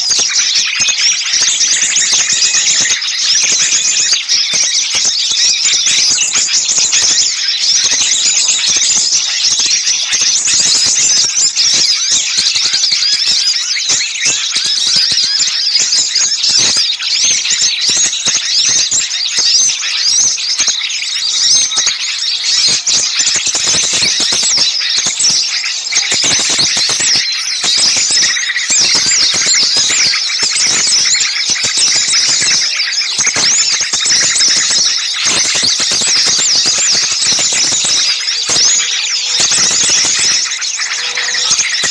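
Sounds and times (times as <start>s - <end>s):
songbirds chirping chorus: 0.0s - 41.9s.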